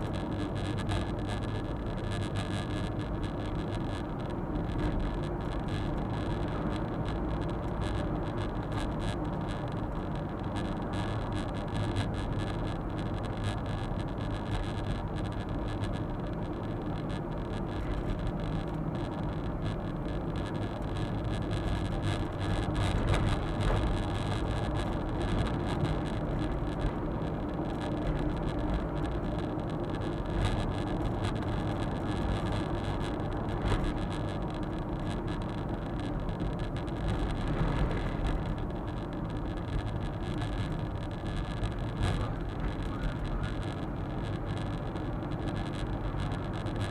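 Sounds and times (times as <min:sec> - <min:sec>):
road and tyre noise: 0:00.0 - 0:46.9.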